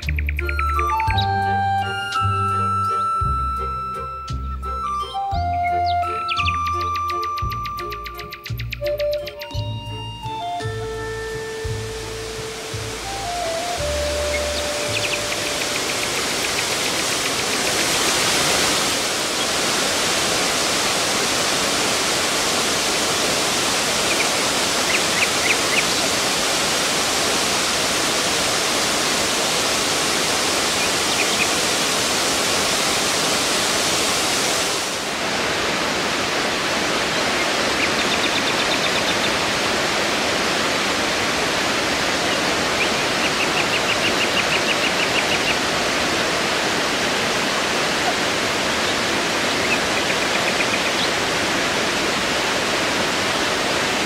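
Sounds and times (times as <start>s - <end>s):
waterfall roaring: 9.4s - 54.0s.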